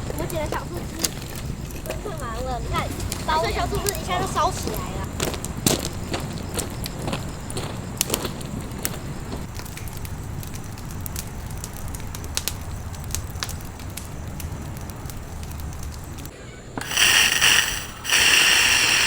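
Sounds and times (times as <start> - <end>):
campfire twigs crackling: 0.0 - 19.0
fire popping: 0.0 - 19.0.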